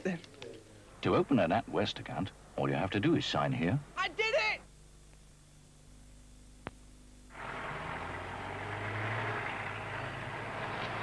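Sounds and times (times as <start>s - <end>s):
low mains hum: 0.0s - 11.0s
steady background hiss: 0.0s - 11.0s.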